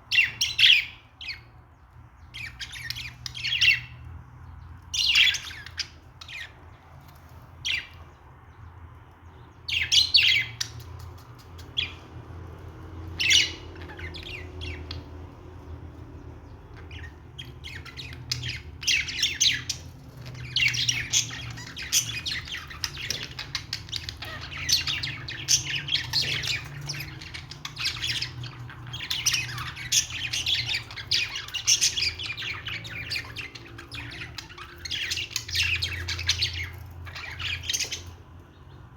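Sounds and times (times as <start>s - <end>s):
budgerigars chirping and squawking: 0.0s - 6.8s, 7.5s - 8.3s, 9.3s - 38.9s.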